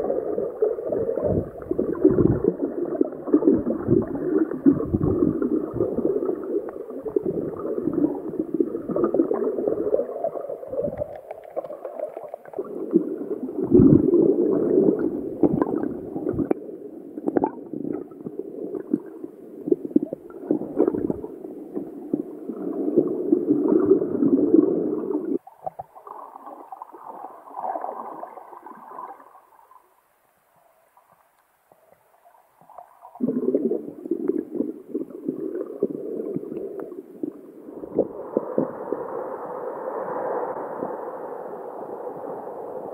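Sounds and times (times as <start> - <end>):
muffled underwater sloshing: 0.0 - 42.9.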